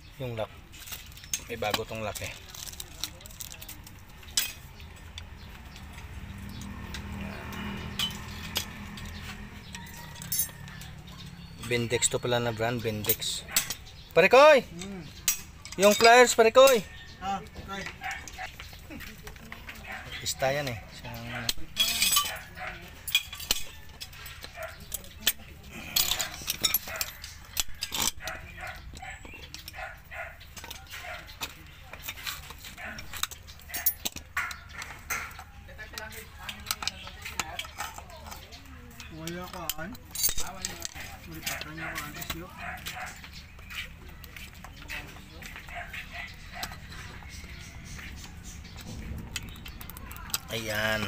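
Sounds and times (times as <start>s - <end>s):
light metallic clicks and clinks: 0.8s - 17.0s, 17.8s - 51.0s.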